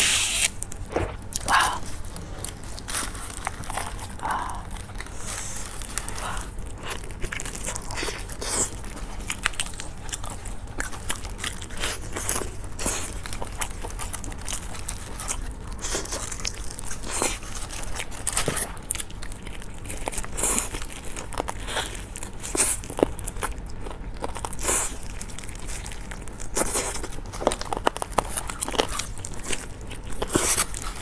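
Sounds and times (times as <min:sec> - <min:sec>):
chewing and biting: 0:00.3 - 0:31.0.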